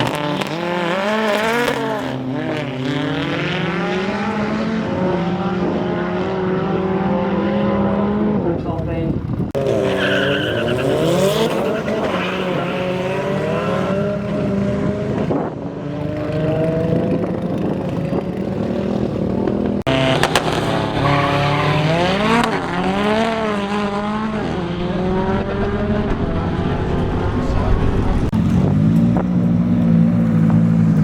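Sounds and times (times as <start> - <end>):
race car engine revving hard: 0.0 - 8.4, 9.5 - 30.9.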